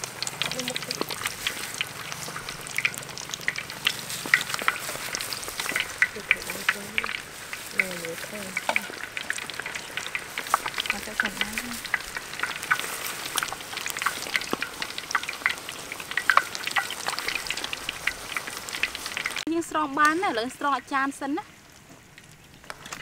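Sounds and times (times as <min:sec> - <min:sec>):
crackling pops in oil: 0:00.0 - 0:19.4
oil sizzling: 0:00.0 - 0:23.0.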